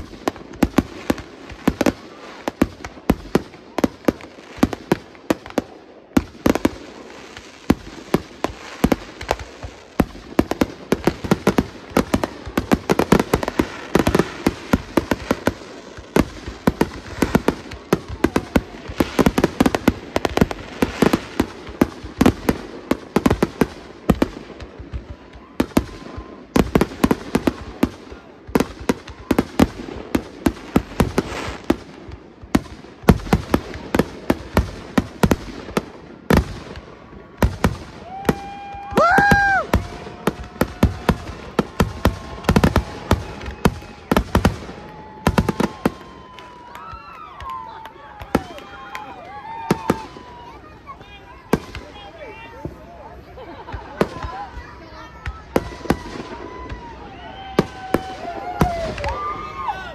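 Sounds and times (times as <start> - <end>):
fireworks bursts and crackling: 0.0 - 59.9.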